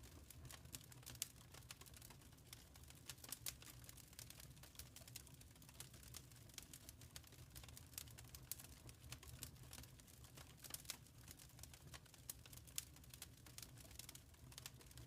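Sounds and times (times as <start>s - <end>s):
low rumble of burning fire: 0.0s - 15.0s
wood fire crackling faintly: 0.0s - 15.0s.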